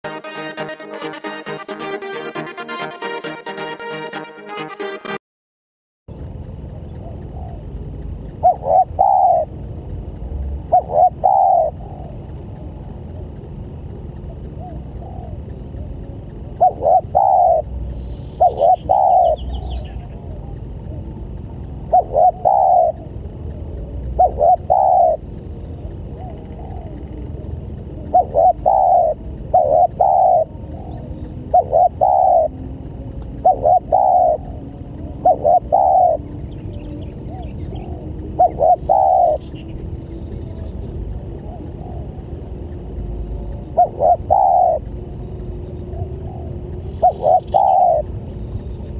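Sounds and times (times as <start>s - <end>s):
low rumble: 6.1s - 48.9s
dove cooing: 6.8s - 9.9s, 10.6s - 48.9s.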